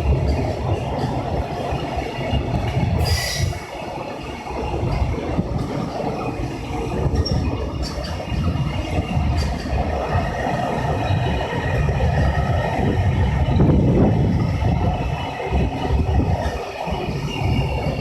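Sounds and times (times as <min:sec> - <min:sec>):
freight train wagons rumbling on rails: 0:00.0 - 0:18.0.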